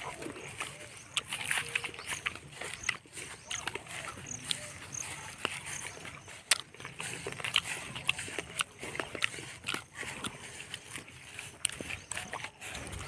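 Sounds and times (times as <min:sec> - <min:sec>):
footsteps on wet dirt path: 0:00.0 - 0:13.0.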